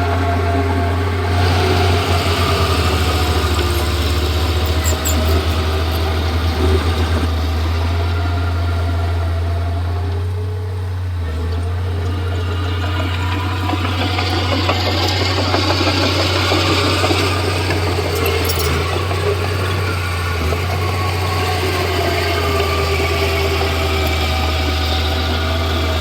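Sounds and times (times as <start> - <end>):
bulldozer diesel engine droning: 0.0 - 26.0.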